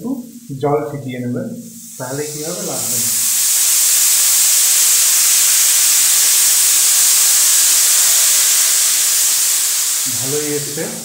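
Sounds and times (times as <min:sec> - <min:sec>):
loud sizzling in a pan: 0:00.0 - 0:11.0.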